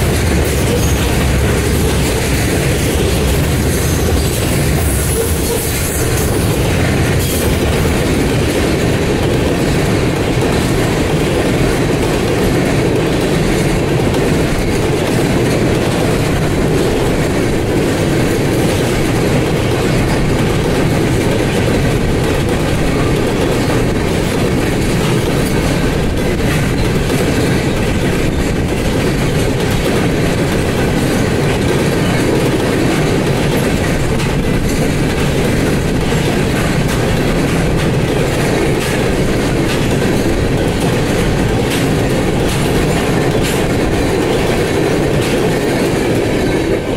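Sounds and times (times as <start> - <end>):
train wheels on rails: 0.0 - 46.9.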